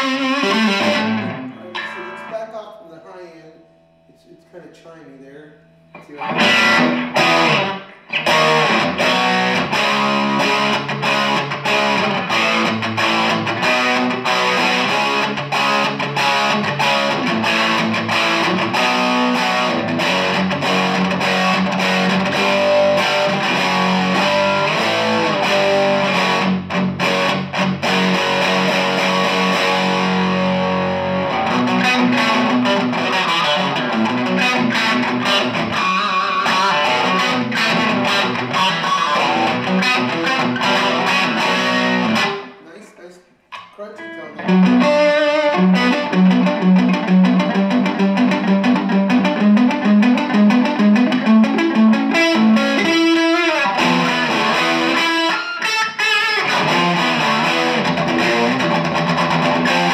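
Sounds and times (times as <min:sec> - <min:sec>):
overdriven electric guitar: 0:00.0 - 0:02.4, 0:05.7 - 0:42.6, 0:43.5 - 0:59.9.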